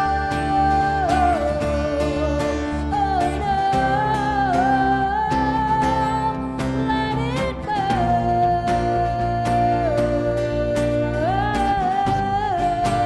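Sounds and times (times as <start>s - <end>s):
bass: 0.0s - 13.0s
guitar: 0.0s - 13.0s.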